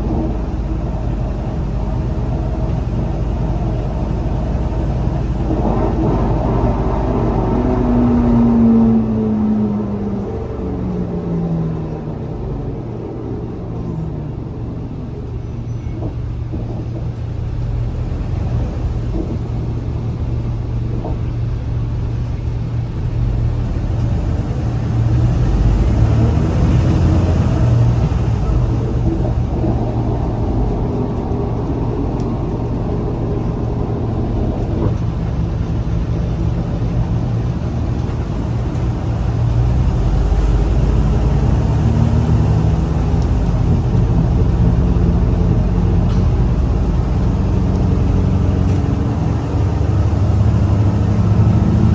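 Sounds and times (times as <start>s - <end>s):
bus engine hum: 0.0s - 51.9s.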